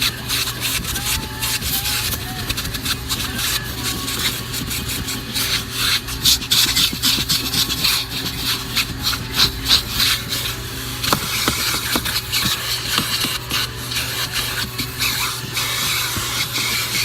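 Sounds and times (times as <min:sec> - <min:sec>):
nozzle scraping carpet: 0:00.0 - 0:17.0
vacuum cleaner running: 0:00.0 - 0:17.0.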